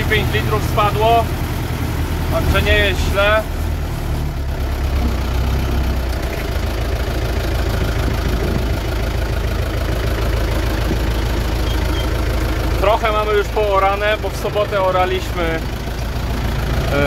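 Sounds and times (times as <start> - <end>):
tractor diesel engine drone: 0.0 - 17.0.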